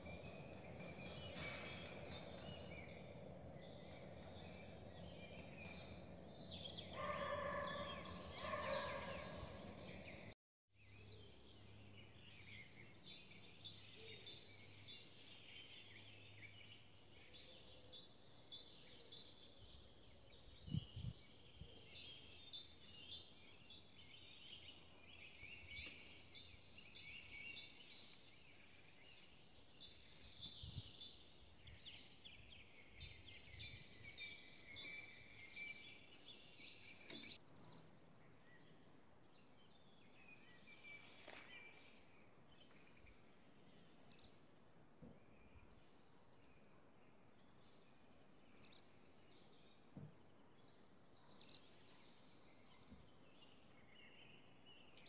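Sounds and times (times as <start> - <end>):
faint birdsong: 0.0 - 55.0.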